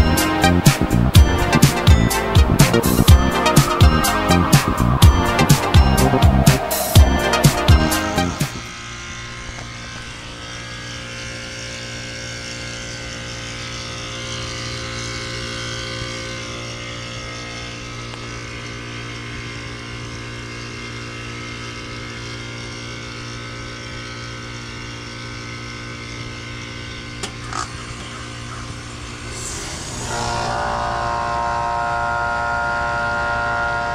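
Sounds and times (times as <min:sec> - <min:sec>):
heat pump compressor hum: 0:00.0 - 0:33.9.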